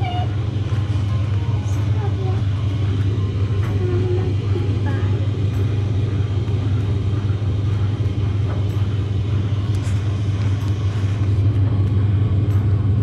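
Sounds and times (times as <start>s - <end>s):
tumble dryer running: 0.0s - 13.0s.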